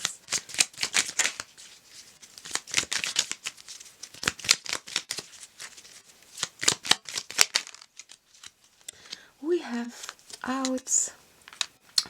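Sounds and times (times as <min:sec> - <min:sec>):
cards being shuffled: 0:00.0 - 0:09.2, 0:09.9 - 0:12.0.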